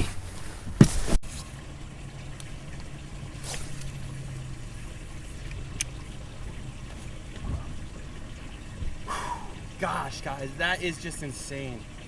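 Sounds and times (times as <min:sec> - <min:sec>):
pump humming: 0:01.3 - 0:12.0
water trickling: 0:01.3 - 0:12.0.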